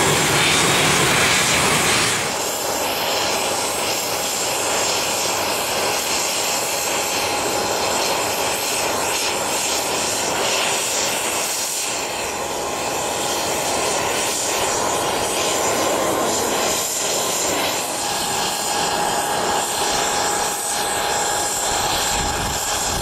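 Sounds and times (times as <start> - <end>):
jet engine noise: 0.0 - 23.0
thin steady whine: 0.0 - 23.0.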